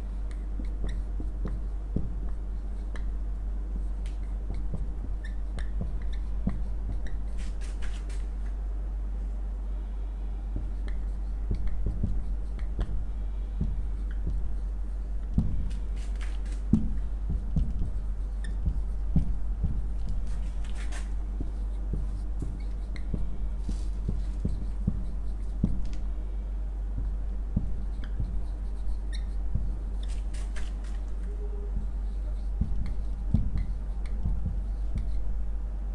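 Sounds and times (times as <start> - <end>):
marker writing on whiteboard: 0.0 - 8.5, 10.6 - 26.2, 26.9 - 35.8
steady low hum: 0.0 - 35.9
marker squeaks: 0.3 - 3.2, 3.8 - 8.5, 10.6 - 13.0, 13.6 - 26.0, 27.0 - 35.4.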